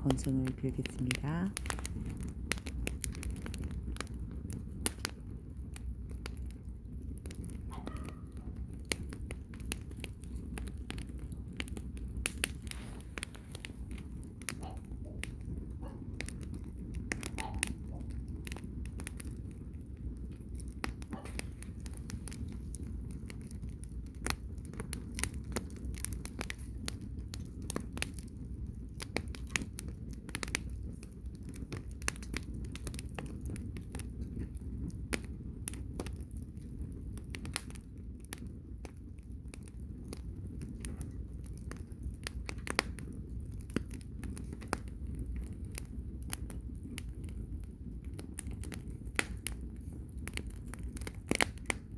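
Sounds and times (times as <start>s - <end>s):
bonfire crackling and popping: 0.0s - 51.9s.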